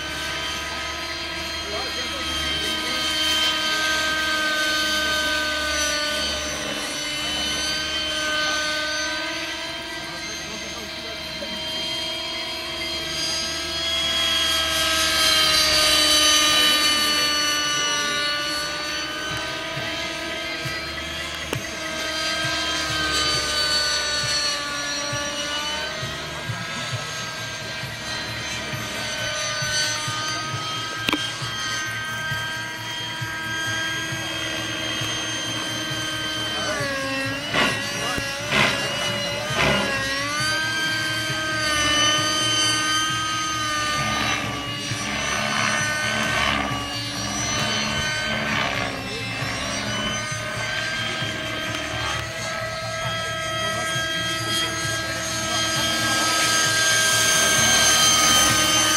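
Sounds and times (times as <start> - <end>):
rc helicopter high whine: 0.0 - 58.9
rotor blades whooshing: 0.0 - 58.9.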